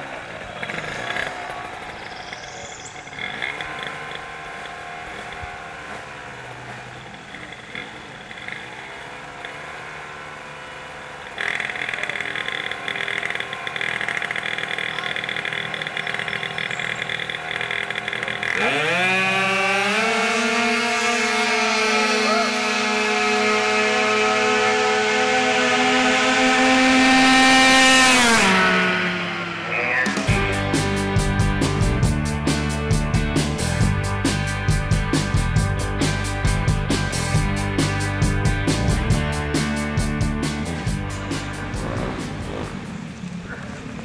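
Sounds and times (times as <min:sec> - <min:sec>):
scooter engine revving: 0:00.0 - 0:44.0.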